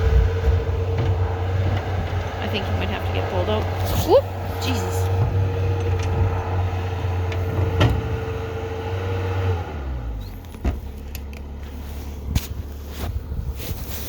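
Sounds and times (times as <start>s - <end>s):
loader engine revving and idling: 0.0s - 14.0s.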